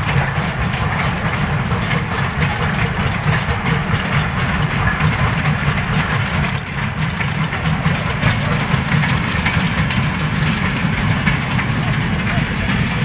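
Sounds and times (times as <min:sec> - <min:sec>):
steam locomotive exhaust beating: 0:00.0 - 0:13.0.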